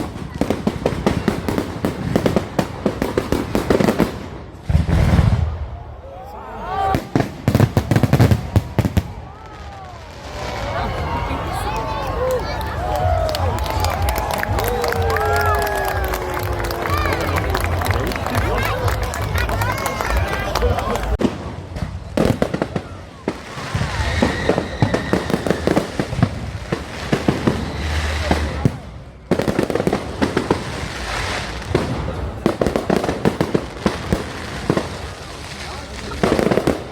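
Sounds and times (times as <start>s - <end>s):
fireworks cracking and popping: 0.0s - 5.5s, 6.9s - 36.9s.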